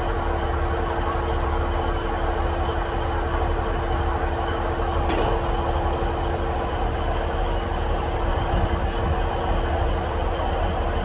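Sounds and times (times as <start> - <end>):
train diesel engines running: 0.0 - 11.0.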